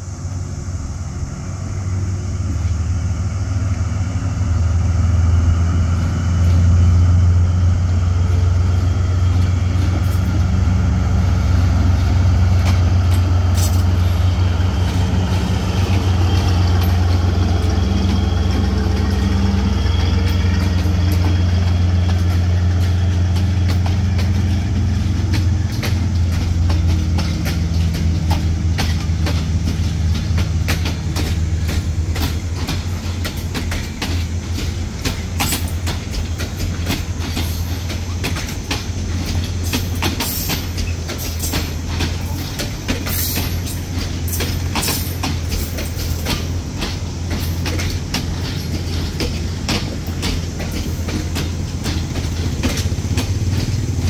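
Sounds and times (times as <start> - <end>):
diesel train engine hum: 0.0 - 54.0
wheels clicking over rail joints: 3.6 - 54.0.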